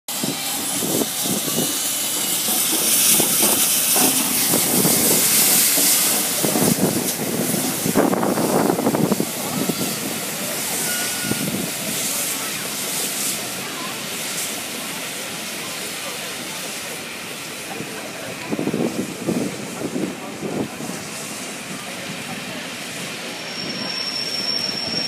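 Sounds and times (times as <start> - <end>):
engine and wheels rumbling: 0.1 - 25.0
steam locomotive hissing: 0.1 - 25.0.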